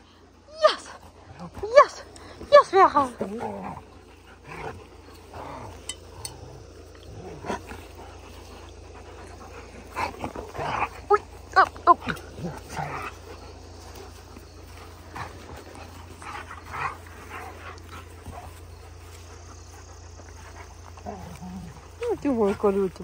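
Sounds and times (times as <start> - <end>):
soft dog vocal sounds: 0.0 - 23.0
dogs tussling: 0.6 - 23.0.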